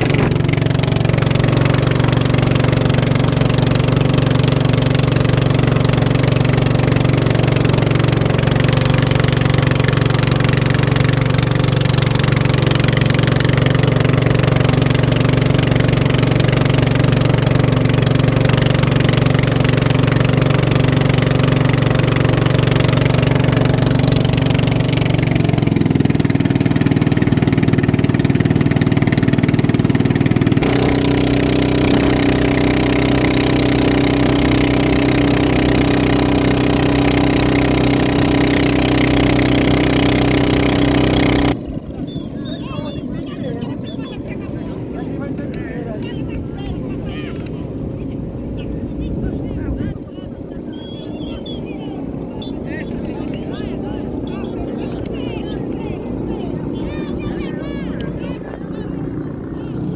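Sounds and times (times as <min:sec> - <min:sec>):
racing boat engine running: 0:00.0 - 0:59.9.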